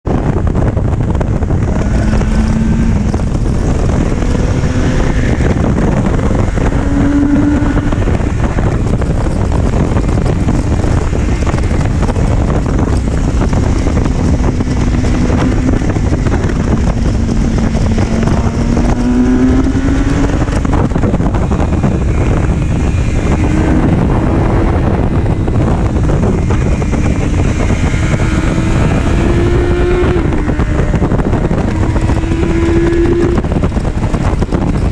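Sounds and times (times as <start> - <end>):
motorcycle engine revving: 0.0 - 34.9
wind rumble on microphone: 0.0 - 34.9.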